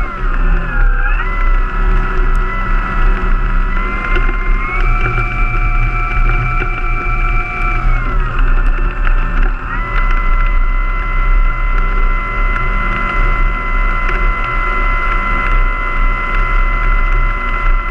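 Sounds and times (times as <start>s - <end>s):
model plane motor and propeller: 0.0s - 17.9s.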